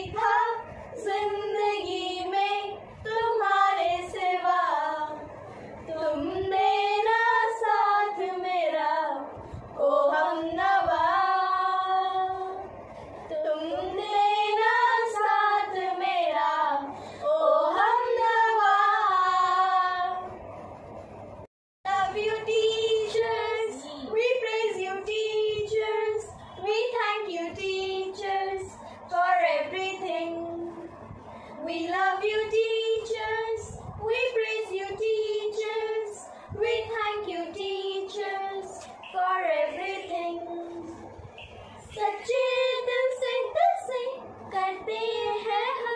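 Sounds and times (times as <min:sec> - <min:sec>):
girls singing unaccompanied: 0:00.0 - 0:20.5, 0:21.9 - 0:45.9.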